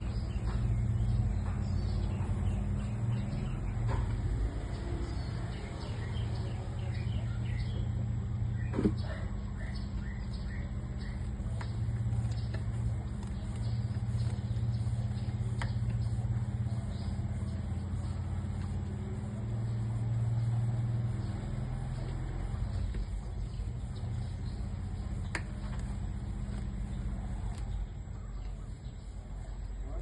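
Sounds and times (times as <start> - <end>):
low engine-like hum: 0.0 - 30.0.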